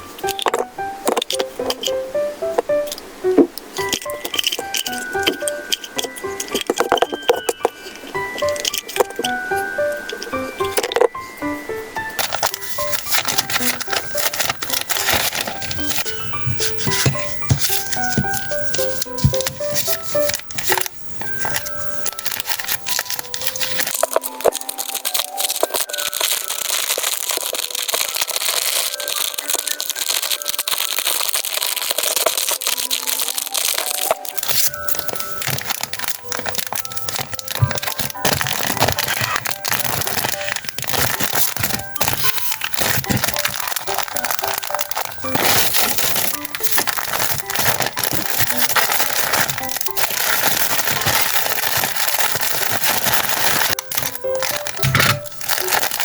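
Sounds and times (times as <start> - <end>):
packaging rustling and crinkling: 0.0 - 56.0
soft background music: 0.0 - 56.0.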